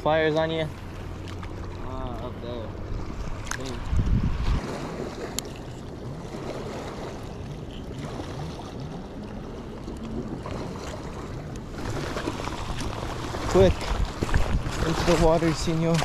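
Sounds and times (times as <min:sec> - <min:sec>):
water lapping at rocky shore: 0:00.0 - 0:16.0
wind on microphone: 0:02.4 - 0:16.0.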